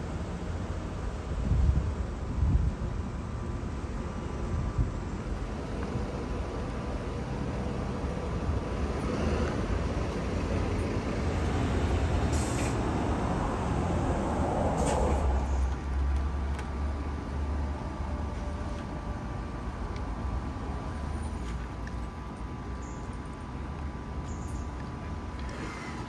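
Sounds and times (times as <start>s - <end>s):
road traffic rumbling past: 0.0s - 26.0s.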